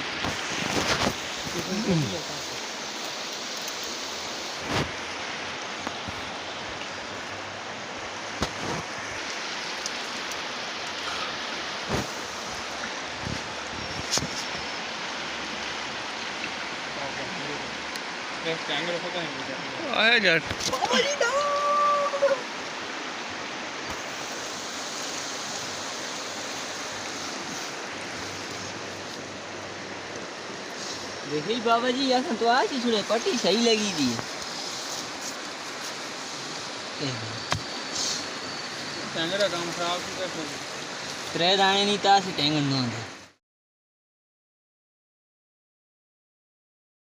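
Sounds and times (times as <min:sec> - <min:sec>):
river water rushing: 0:00.0 - 0:43.4.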